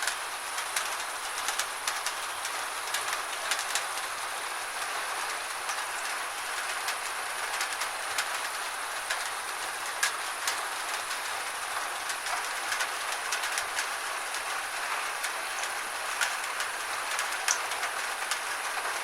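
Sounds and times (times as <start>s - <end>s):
raindrops ticking on a surface: 0.0s - 19.0s
steady rain: 0.0s - 19.0s.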